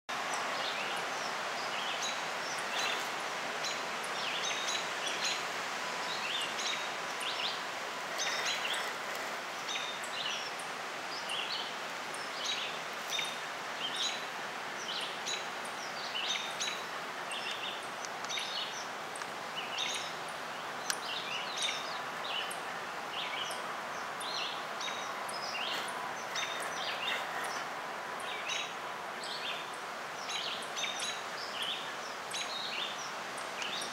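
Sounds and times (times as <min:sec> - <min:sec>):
songbirds chirping: 0:00.1 - 0:33.9
steady outdoor hiss: 0:00.1 - 0:33.9.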